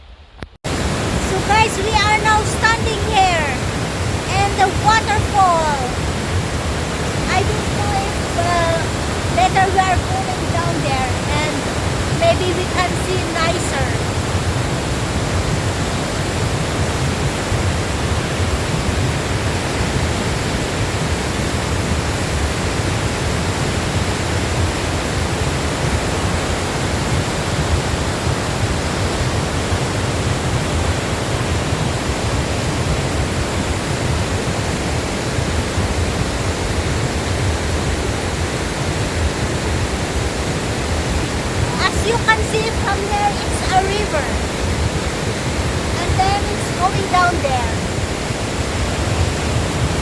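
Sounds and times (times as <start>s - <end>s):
waterfall roaring: 0.7s - 50.0s.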